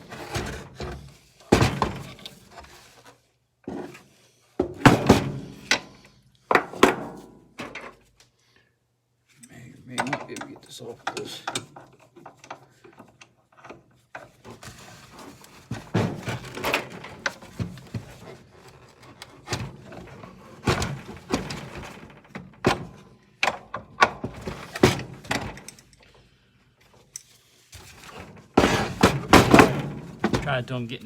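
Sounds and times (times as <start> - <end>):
knocks and clunks of saw parts: 0.0 - 2.8, 4.6 - 8.0, 9.9 - 26.1, 27.9 - 30.8.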